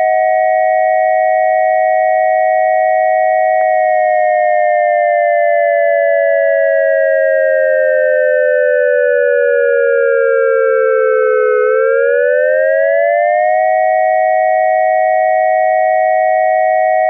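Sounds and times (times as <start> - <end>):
dual-tone electronic siren: 0.0 - 17.0.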